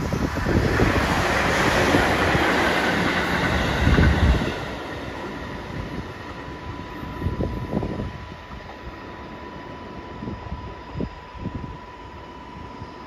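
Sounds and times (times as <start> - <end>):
train wheels rumbling over rails: 0.0 - 11.3.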